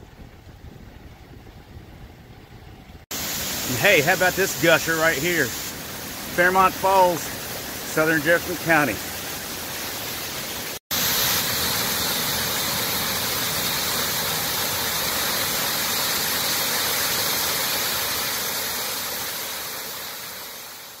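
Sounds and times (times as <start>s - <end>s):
waterfall gushing: 3.1s - 21.0s.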